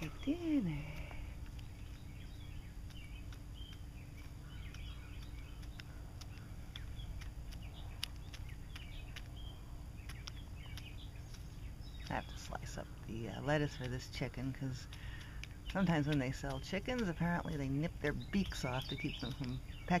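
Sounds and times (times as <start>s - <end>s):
hen pecking at feed: 0.0s - 20.0s
low background rumble: 0.0s - 20.0s
small birds chirping: 0.0s - 20.0s.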